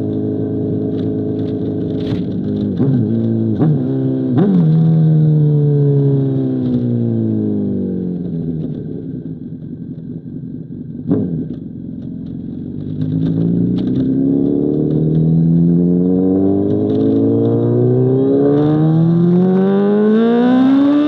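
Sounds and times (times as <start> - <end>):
motorcycle engine revving: 0.0 - 9.5, 10.6 - 21.0.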